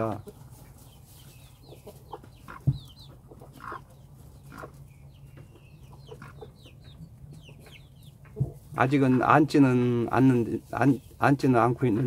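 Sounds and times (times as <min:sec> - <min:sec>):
hen clucking softly: 0:00.0 - 0:11.0
chicks chirping: 0:00.0 - 0:12.0.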